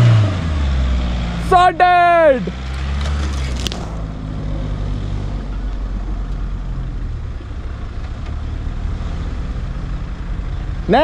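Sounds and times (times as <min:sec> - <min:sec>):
suv engine running at low revs: 0:00.0 - 0:11.0.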